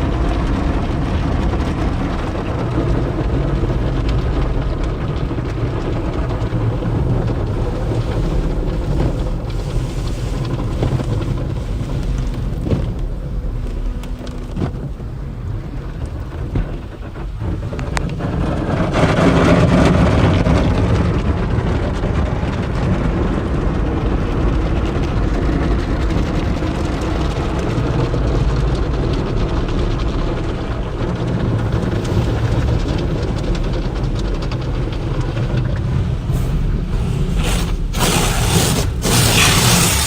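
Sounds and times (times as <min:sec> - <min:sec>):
car wash machinery and water: 0:00.0 - 0:40.0.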